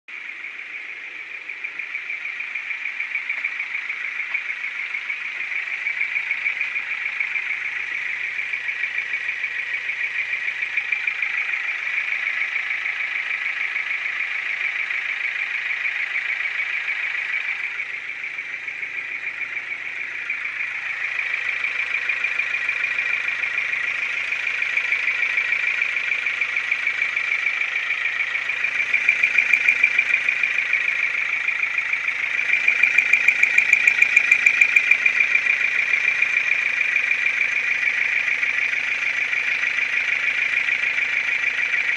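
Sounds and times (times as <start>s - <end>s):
car engine running: 0.0s - 41.9s
rapid knocking inside engine: 0.1s - 41.9s.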